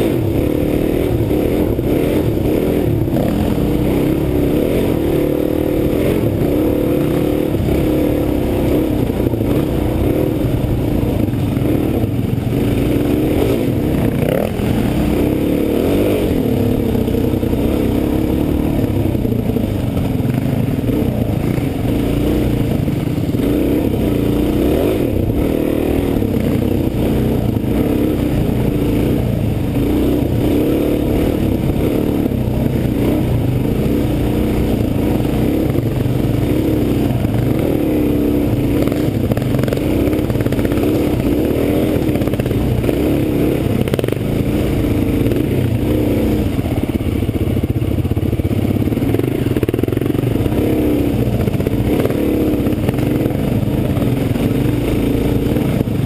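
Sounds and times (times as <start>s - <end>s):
motorcycle clattering over bumps: 0.0s - 56.0s
motorcycle engine revving: 0.0s - 56.0s.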